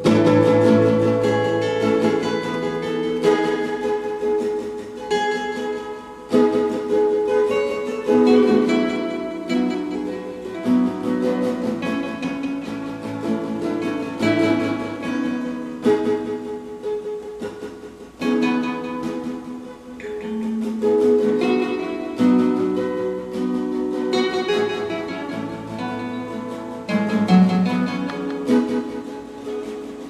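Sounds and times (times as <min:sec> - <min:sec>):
plucked string instrument music: 0:00.0 - 0:30.0.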